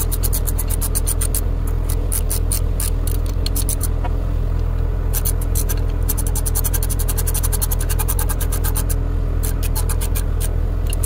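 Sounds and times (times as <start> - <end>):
ratchet wrench clicking: 0.0 - 4.0, 5.1 - 11.0
steady low hum: 0.0 - 11.0.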